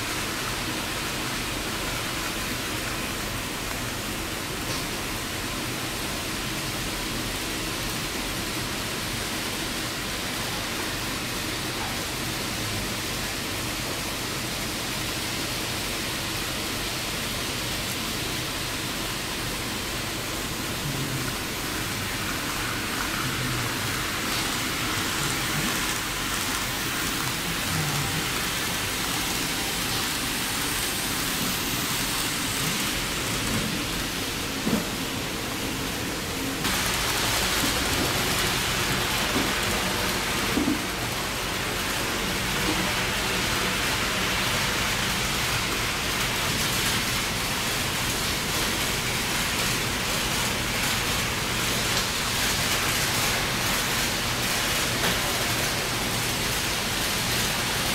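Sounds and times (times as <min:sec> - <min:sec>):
model trains rolling: 0:00.0 - 0:57.9.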